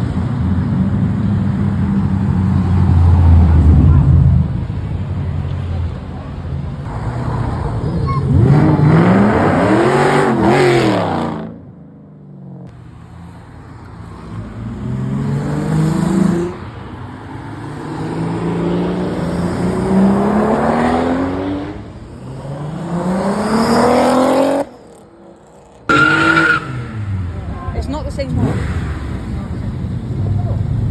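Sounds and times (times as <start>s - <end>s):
car engines revving and accelerating: 0.0s - 11.8s, 12.7s - 30.9s.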